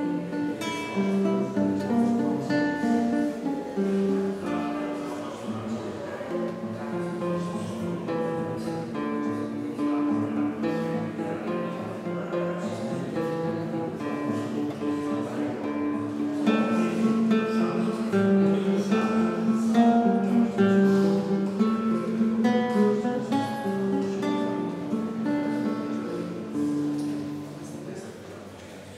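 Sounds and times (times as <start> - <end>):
fingerstyle classical guitar: 0.0 - 28.9.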